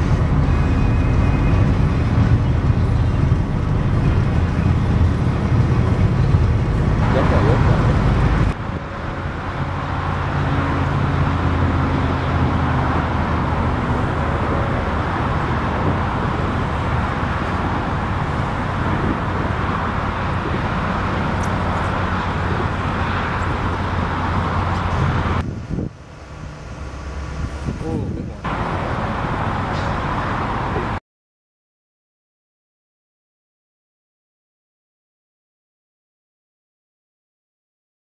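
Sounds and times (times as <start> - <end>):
car engine hum: 0.0 - 31.0
road and wind noise: 0.0 - 31.0.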